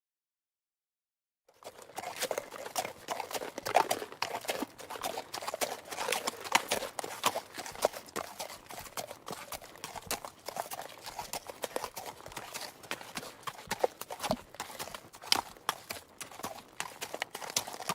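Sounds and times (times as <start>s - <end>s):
hooves clip-clopping on hard surface: 1.6s - 17.9s.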